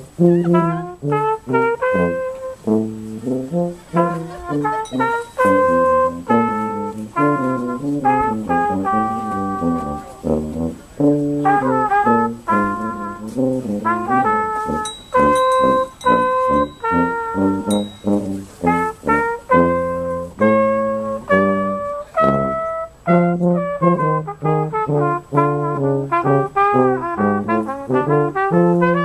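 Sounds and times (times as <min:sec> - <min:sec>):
low brass horn notes: 0:00.0 - 0:29.0
trumpet melody: 0:00.0 - 0:29.0.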